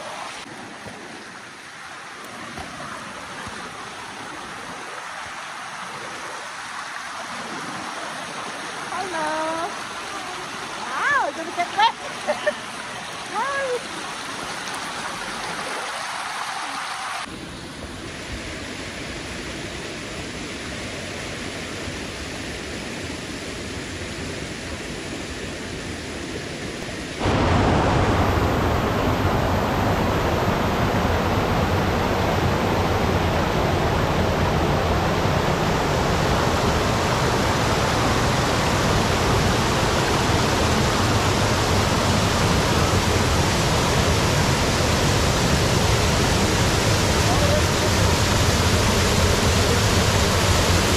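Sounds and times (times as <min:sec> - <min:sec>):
water rushing over rocks: 0:00.0 - 0:19.5, 0:20.4 - 0:50.9.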